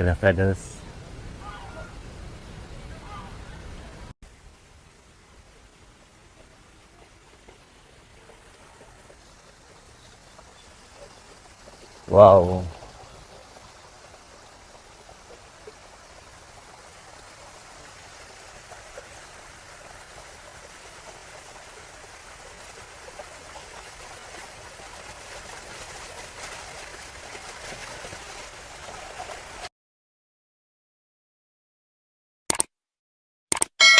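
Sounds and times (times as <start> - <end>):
rush of running water: 0.0 - 29.7.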